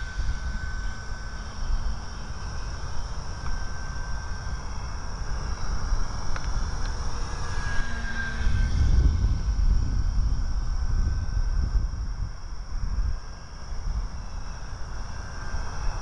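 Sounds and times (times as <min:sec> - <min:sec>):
model plane propeller whining: 0:00.0 - 0:16.0.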